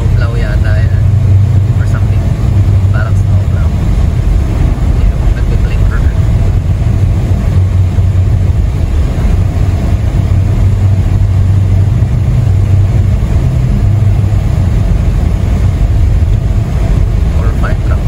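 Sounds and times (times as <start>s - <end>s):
car driving on snowy road: 0.0s - 18.0s.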